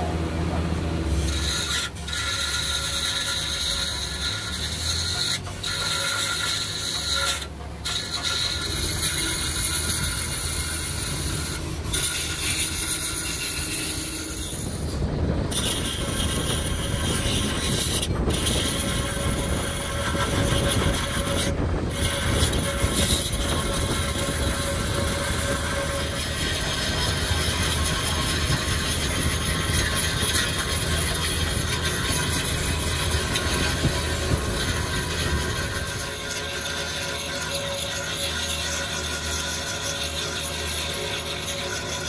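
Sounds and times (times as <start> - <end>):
grinder whining on metal: 0.0 - 42.0.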